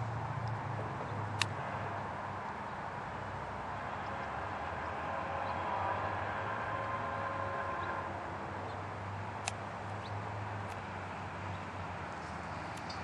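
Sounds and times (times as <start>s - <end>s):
distant train rumble: 0.0s - 13.0s
street traffic: 0.0s - 13.0s.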